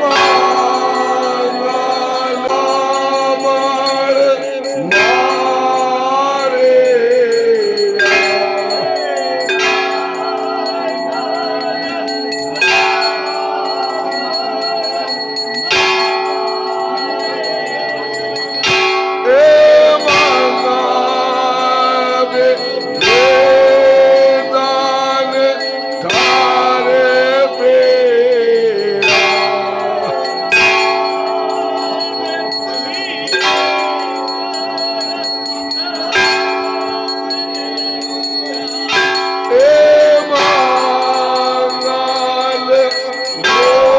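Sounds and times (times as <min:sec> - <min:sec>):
people singing held notes: 0:00.0 - 0:15.8, 0:16.9 - 0:36.4
temple bells ringing: 0:00.0 - 0:43.9.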